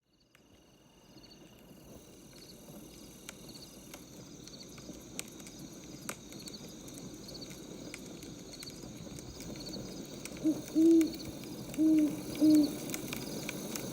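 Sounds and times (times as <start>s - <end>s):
crickets chirping: 0.1s - 13.9s
wood fire crackling: 1.5s - 13.9s.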